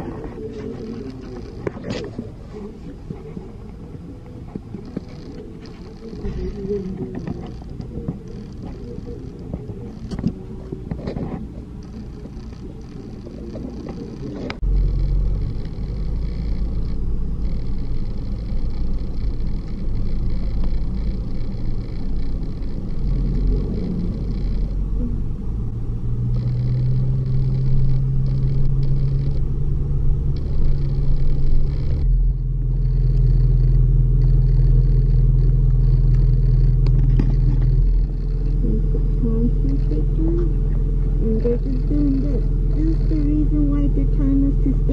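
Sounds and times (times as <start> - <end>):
car cabin road and engine rumble: 0.0 - 44.9.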